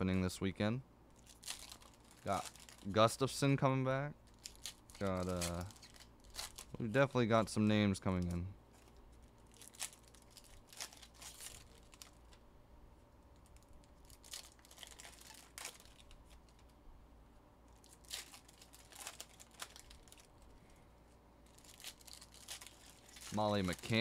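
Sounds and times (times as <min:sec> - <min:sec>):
card wrappers crinkling: 0:01.2 - 0:03.3, 0:04.2 - 0:12.4, 0:13.3 - 0:16.8, 0:17.7 - 0:24.0.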